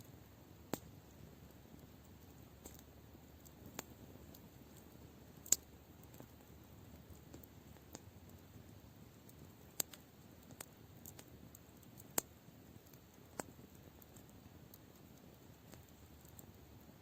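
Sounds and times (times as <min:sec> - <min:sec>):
campfire crackling and popping: 0:00.0 - 0:17.0
faint steady hiss: 0:00.0 - 0:17.0.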